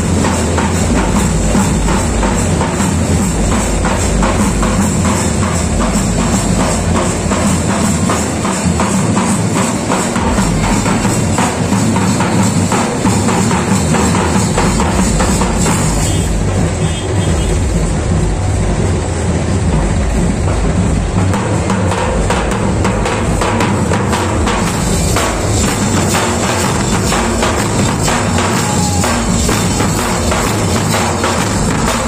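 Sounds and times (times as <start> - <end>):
loud rapid drumming: 0.0 - 32.0.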